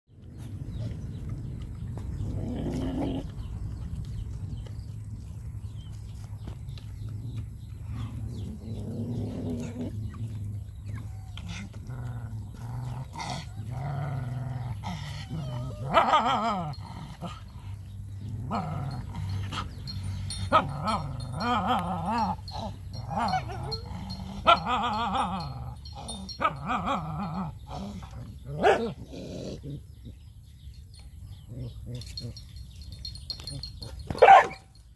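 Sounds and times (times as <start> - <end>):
dogs growling and snarling: 0.2 - 34.4.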